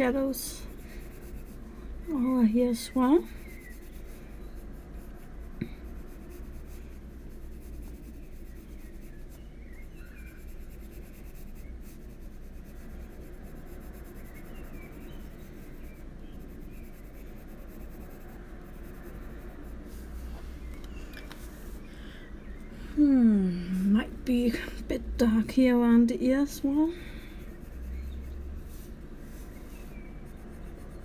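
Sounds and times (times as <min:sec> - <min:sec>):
pencil scratching on paper: 0:00.0 - 0:20.8, 0:25.2 - 0:31.0.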